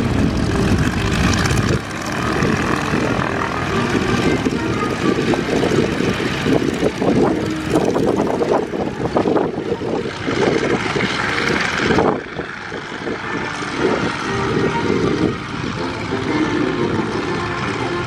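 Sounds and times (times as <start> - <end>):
radial engines idling: 0.0 - 18.0.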